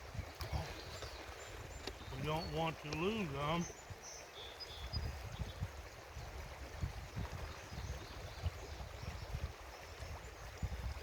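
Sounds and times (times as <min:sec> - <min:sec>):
river water gurgling: 0:00.0 - 0:11.0.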